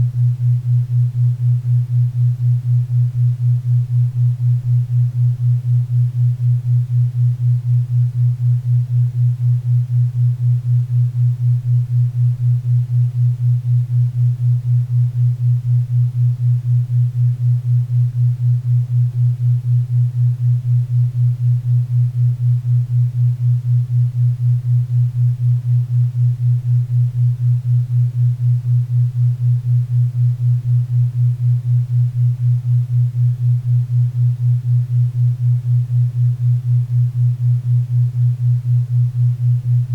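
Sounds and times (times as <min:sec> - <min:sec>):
pulsing low hum: 0:00.0 - 0:39.9.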